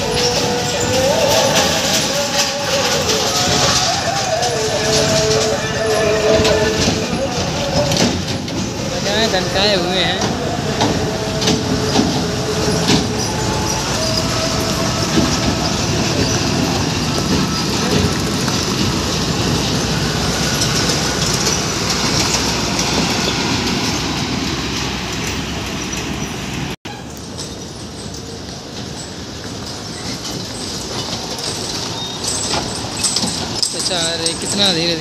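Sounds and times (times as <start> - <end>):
rattling and clatter: 0.0 - 35.0
truck engine and road noise: 0.0 - 35.0.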